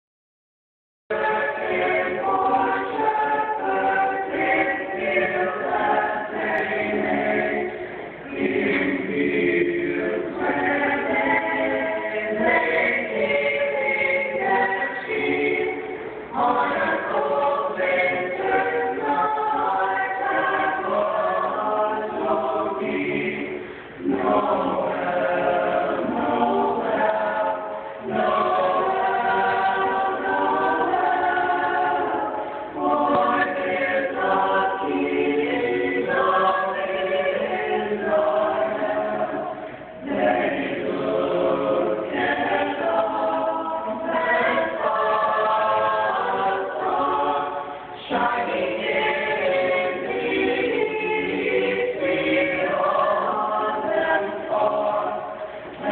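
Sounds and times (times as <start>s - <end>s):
children's choir singing a cappella: 1.1s - 55.9s.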